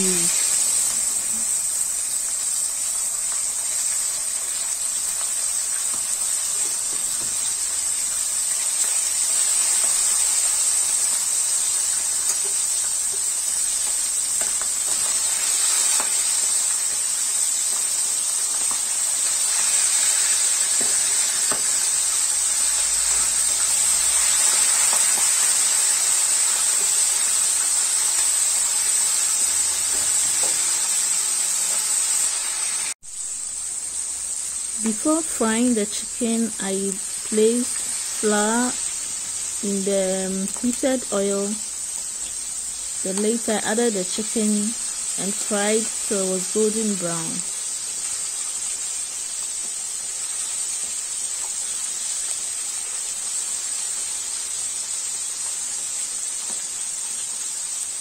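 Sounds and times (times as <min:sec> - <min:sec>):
chicken frying in oil: 0:00.0 - 0:58.0.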